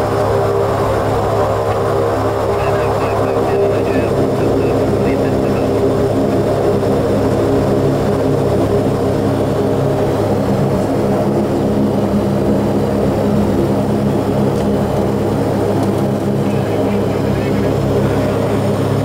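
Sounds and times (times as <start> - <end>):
turboprop engines droning: 0.0 - 19.0.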